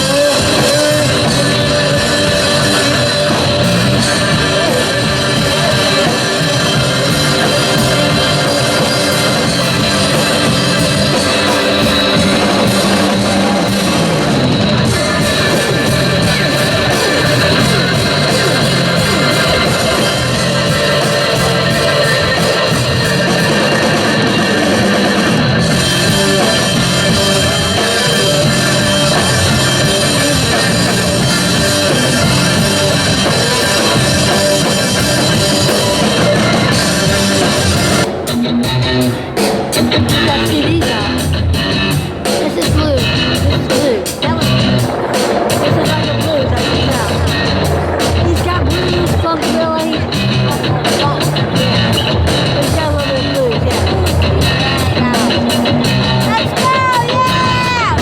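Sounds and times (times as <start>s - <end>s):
drum kit: 0.0s - 58.0s
electric guitar: 0.0s - 58.0s
hard rock music: 0.0s - 58.0s.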